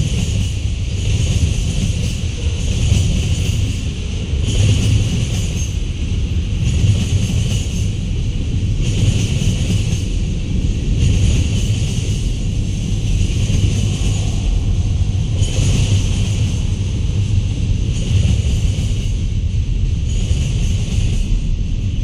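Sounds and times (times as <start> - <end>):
high metallic hiss: 0.0 - 22.0
steel wheels rumbling on rail: 0.0 - 22.0.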